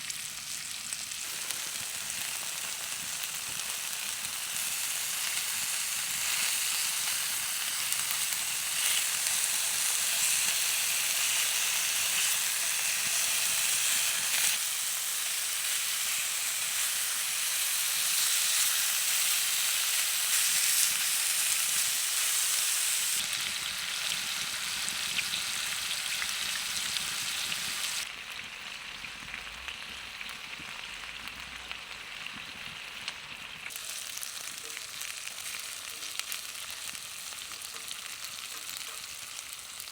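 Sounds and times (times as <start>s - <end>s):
chicken wings sizzling: 0.0s - 39.9s.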